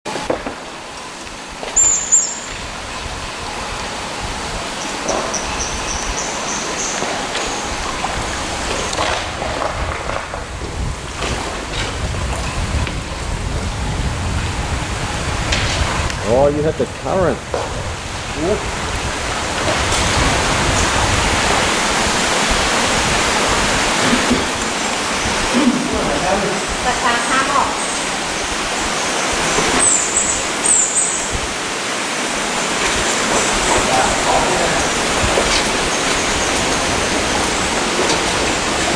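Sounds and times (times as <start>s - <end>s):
wind: 0.0s - 38.9s
water rushing around a boat: 0.1s - 38.9s.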